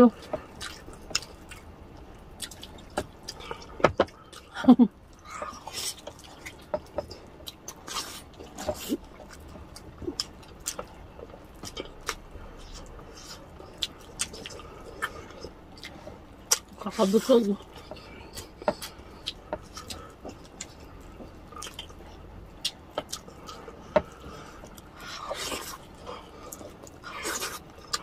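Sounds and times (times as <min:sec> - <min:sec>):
wet chewing: 0:00.1 - 0:28.0.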